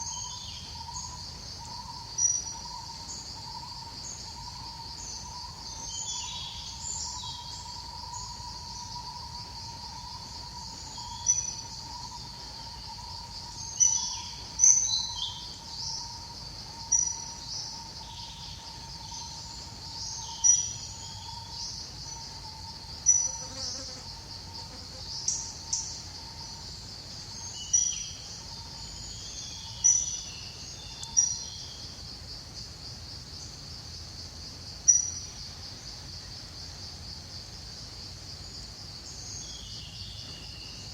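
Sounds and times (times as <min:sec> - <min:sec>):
faint steady insect tone: 0:00.0 - 0:40.9
pulsing insect drone: 0:00.0 - 0:40.9.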